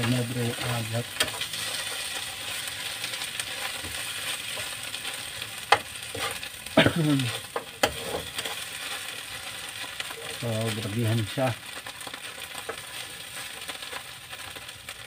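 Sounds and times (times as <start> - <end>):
fish sizzling in a frying pan: 0.0 - 15.0.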